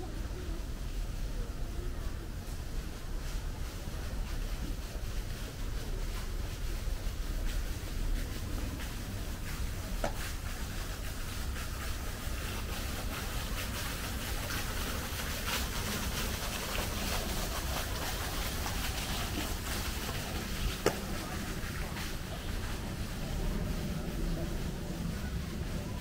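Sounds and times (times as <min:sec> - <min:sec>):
even hiss: 0:00.0 - 0:26.0.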